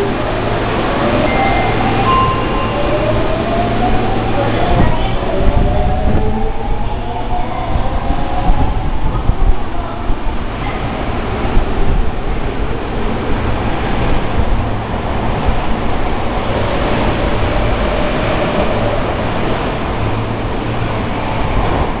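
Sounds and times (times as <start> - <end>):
faint train whine: 0.0 - 22.0
train wheels and motors rumbling: 0.0 - 22.0.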